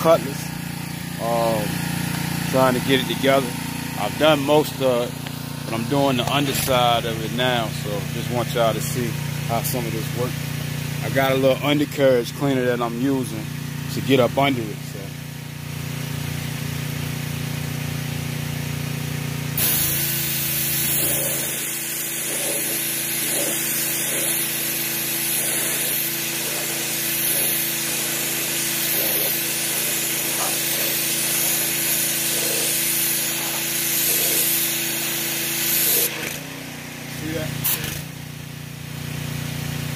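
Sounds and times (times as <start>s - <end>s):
water spraying with loud hiss: 0.0s - 12.9s, 15.1s - 38.1s
pressure washer motor humming: 0.0s - 39.9s.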